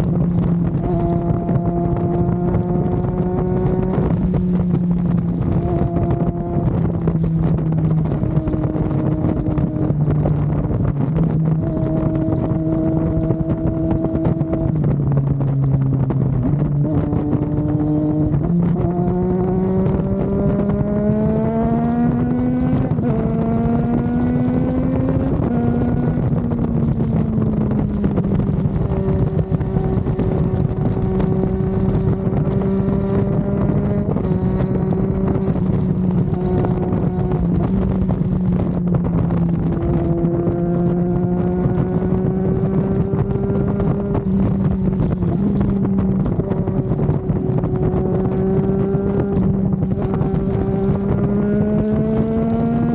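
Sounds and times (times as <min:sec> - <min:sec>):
motorcycle engine revving: 0:00.0 - 0:52.9
wind rushing over microphone: 0:00.0 - 0:52.9.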